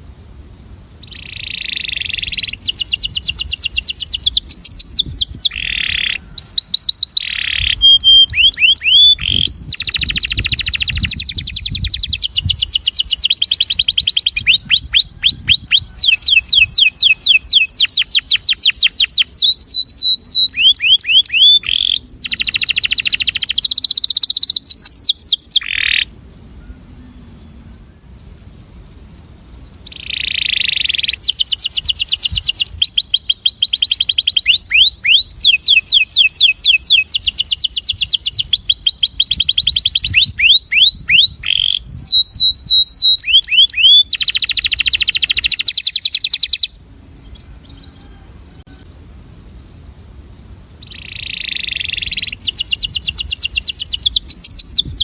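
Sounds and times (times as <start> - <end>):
canary singing trills: 1.0 - 55.0.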